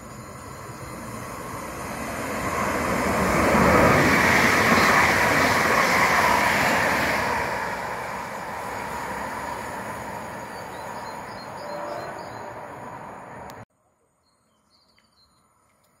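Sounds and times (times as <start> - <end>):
train passing with rail noise: 0.0 - 13.6.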